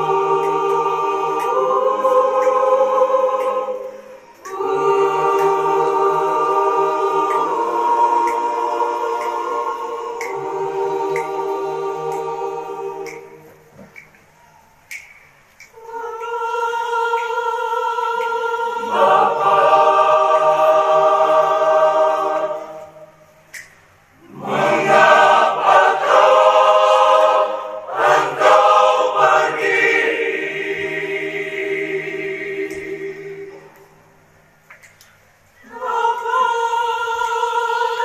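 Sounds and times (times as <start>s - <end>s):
choir singing a hymn: 0.0s - 14.0s, 15.7s - 34.4s, 35.6s - 38.0s.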